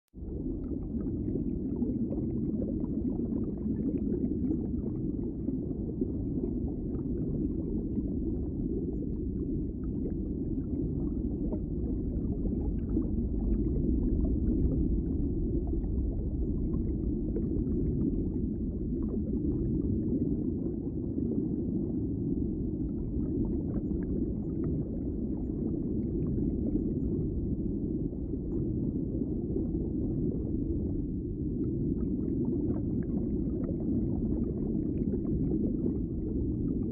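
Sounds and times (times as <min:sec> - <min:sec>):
muffled underwater rumble: 0:00.1 - 0:36.9.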